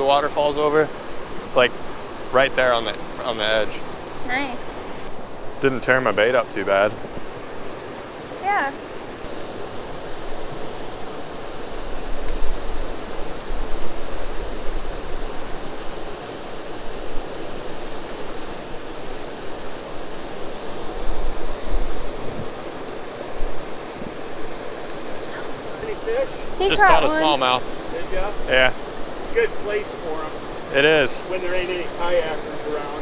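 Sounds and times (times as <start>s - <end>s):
creek rushing over weir: 0.0s - 33.0s
wind rumble on microphone: 0.0s - 33.0s.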